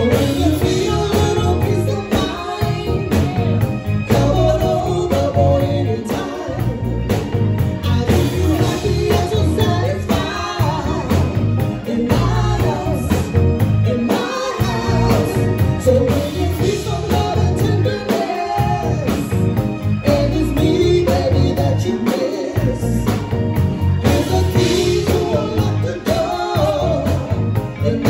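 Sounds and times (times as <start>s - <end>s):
women singing: 0.0s - 23.3s, 24.0s - 28.0s
live band playing: 0.0s - 28.0s.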